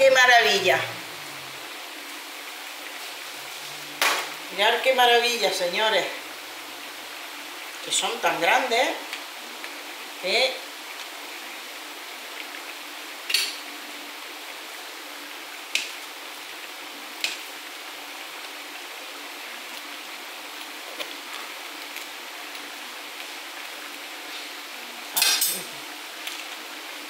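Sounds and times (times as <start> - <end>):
broth bubbling in a pan: 0.0 - 27.0.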